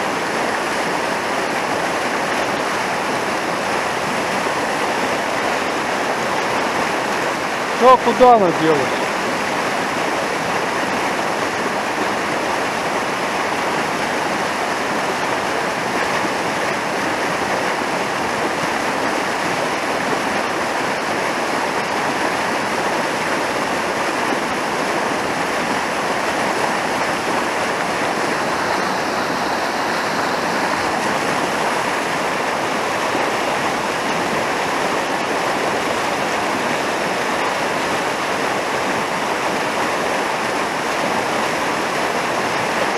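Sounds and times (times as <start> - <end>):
river rushing over rapids: 0.0 - 42.9.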